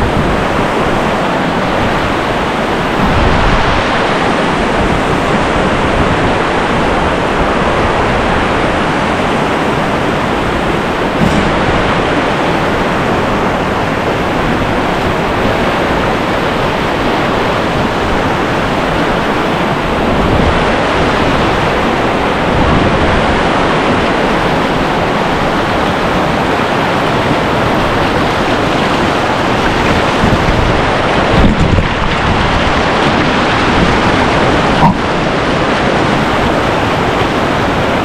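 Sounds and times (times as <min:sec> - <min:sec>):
whitewater rapid rushing: 0:00.0 - 0:38.0.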